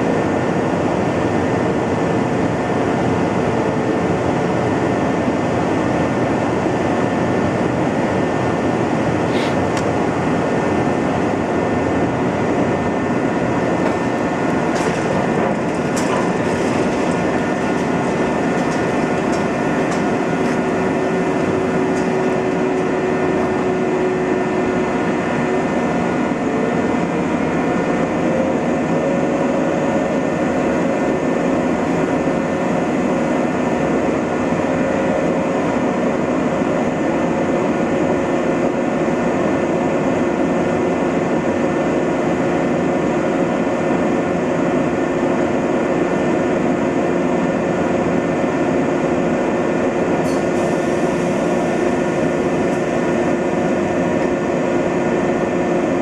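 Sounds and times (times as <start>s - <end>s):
electric train equipment humming: 0.0s - 56.0s.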